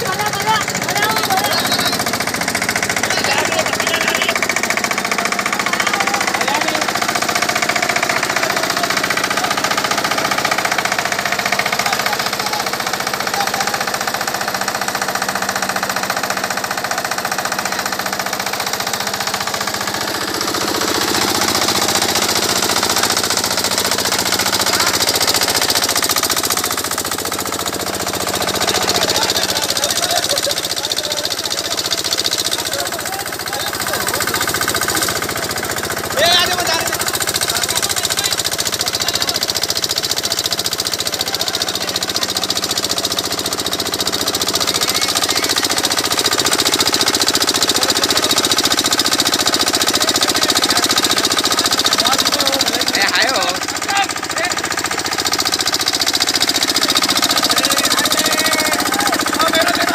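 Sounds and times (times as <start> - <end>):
stationary engine thudding: 0.0 - 59.9
sugarcane crusher: 0.0 - 59.9.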